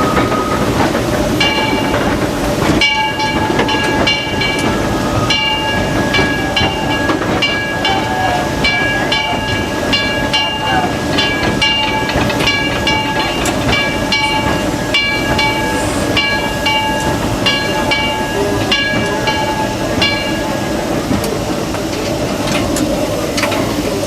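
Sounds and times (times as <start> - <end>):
steam locomotive rumble and hiss: 0.0 - 24.0.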